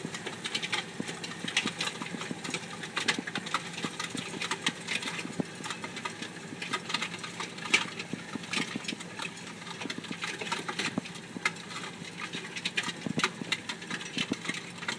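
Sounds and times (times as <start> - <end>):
engine hum: 0.0 - 14.9
irregular clicks and rattles: 0.0 - 14.9.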